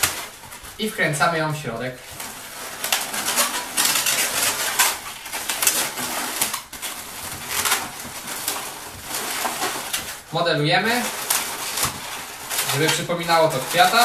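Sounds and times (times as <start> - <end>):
balloons squeaking and rubbing: 0.0 - 14.0.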